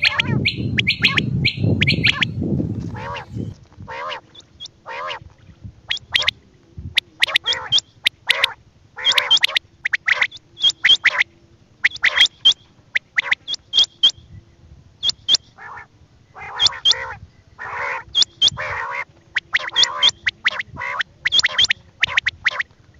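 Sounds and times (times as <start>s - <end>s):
quail calling: 0.0s - 14.2s, 15.0s - 22.8s
faint low hum: 0.0s - 22.9s.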